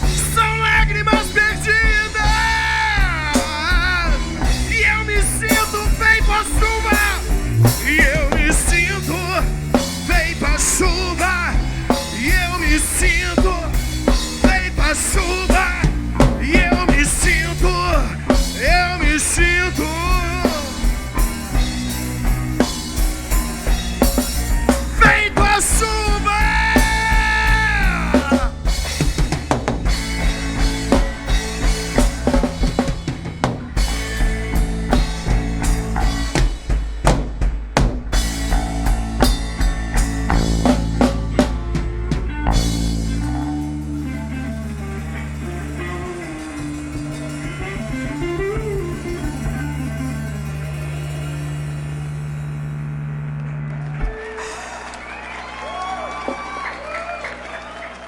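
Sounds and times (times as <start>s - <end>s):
lead guitar bending notes: 0.0s - 54.8s
drum kit: 0.0s - 56.7s
bass line: 0.0s - 58.0s.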